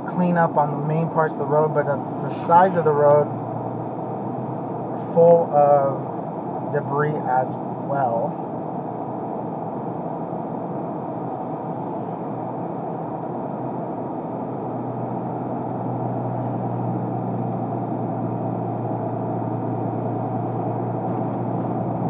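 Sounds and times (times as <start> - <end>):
car engine hum: 0.0 - 22.0
road and tyre noise: 0.0 - 22.0.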